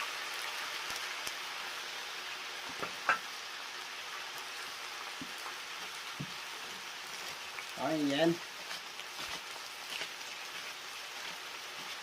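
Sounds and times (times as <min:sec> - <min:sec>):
cabbage sizzling in oil: 0:00.0 - 0:12.0.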